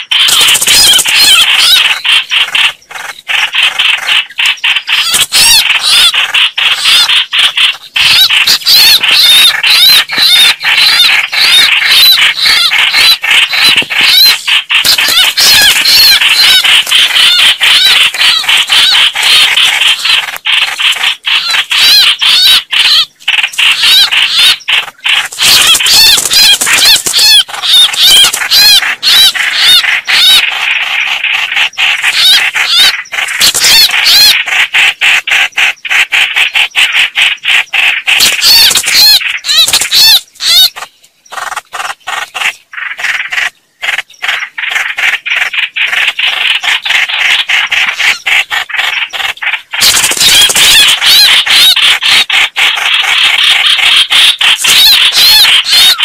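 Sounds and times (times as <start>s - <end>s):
birds chattering harshly: 0.0s - 56.0s.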